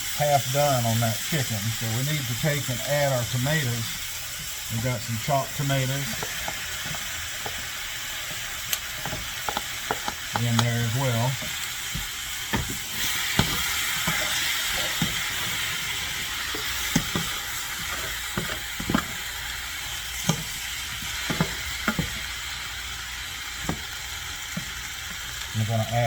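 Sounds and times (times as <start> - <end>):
food sizzling in a hot pan: 0.0 - 26.0.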